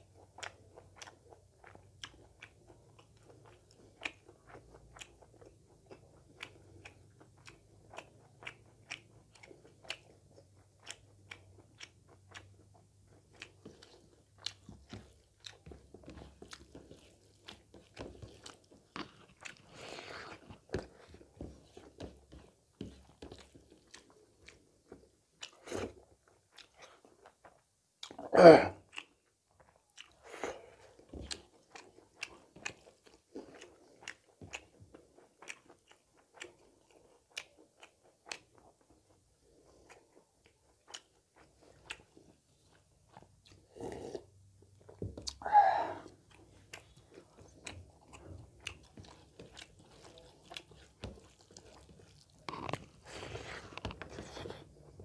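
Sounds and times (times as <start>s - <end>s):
chewing and lip-smacking: 0.0s - 45.4s, 46.0s - 55.0s.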